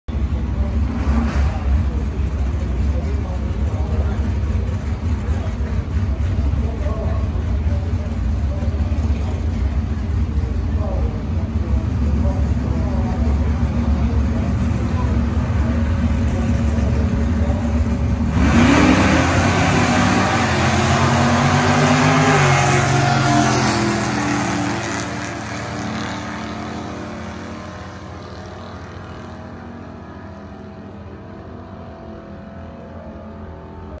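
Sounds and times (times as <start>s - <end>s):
drag car engines revving: 0.1s - 34.0s.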